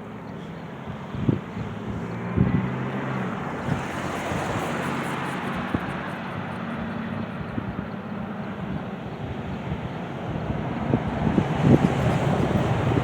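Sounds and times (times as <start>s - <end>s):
low engine hum: 0.0s - 13.0s
wind on microphone: 0.6s - 13.0s.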